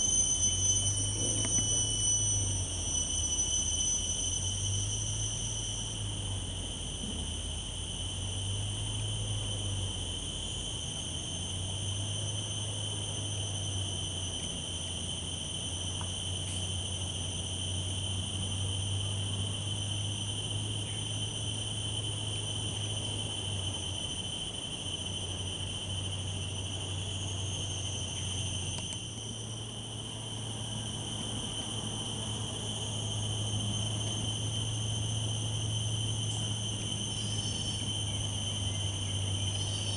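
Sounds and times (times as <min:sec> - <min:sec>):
high-pitched insect chorus: 0:00.0 - 0:39.9
low steady hum: 0:00.0 - 0:39.9.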